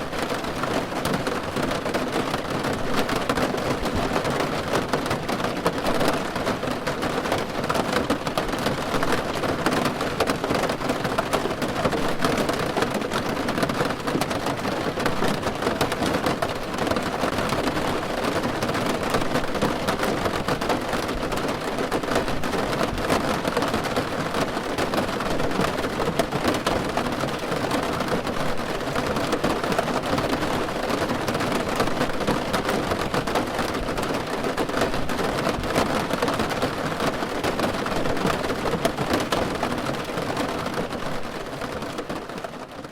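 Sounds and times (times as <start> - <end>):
rain on a car roof: 0.0 - 42.9.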